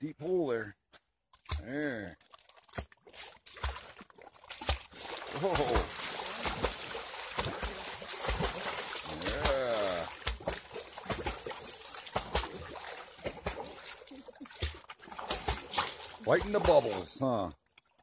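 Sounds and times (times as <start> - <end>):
dog splashing in water: 1.4 - 17.2.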